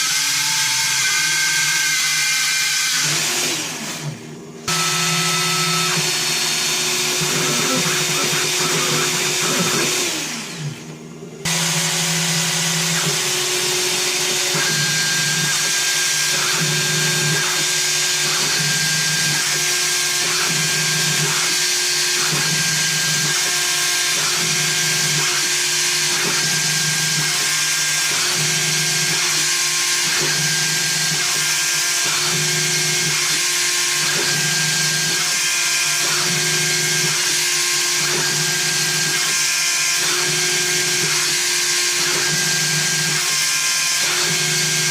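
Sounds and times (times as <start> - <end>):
axis motor tones: 2.9 - 44.9.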